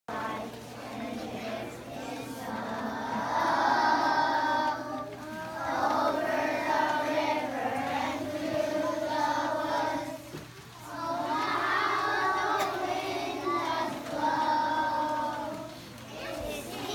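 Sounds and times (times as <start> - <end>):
children singing together: 0.1 - 16.9.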